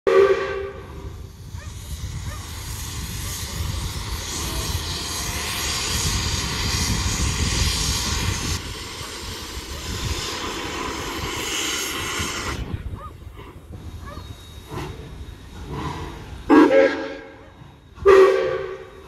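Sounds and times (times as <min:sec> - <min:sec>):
low locomotive rumble: 0:00.1 - 0:19.0
steam hissing: 0:00.1 - 0:19.0.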